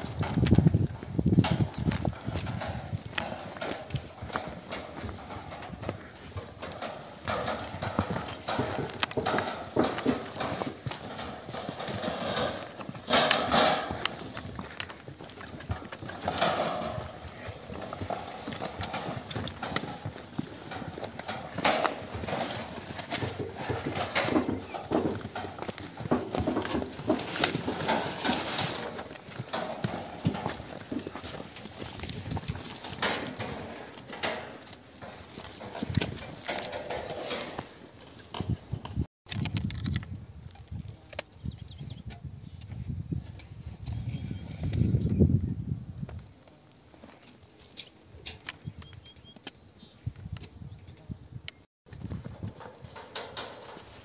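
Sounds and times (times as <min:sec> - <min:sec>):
footsteps of people walking: 0:00.0 - 0:39.6, 0:45.9 - 0:51.1
donkey hooves clopping on rocks: 0:00.0 - 0:54.0.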